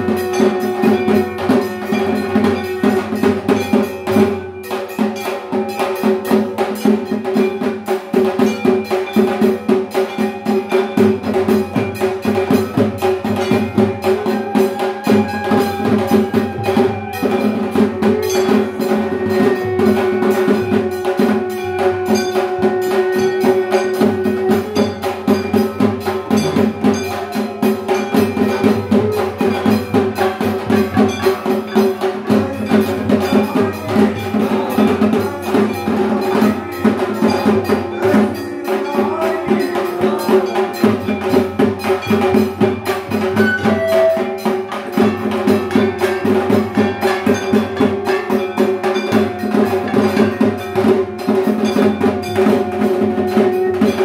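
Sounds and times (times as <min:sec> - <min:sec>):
drums beaten in fast rhythm: 0:00.0 - 0:54.0
metallic ringing: 0:00.0 - 0:54.0.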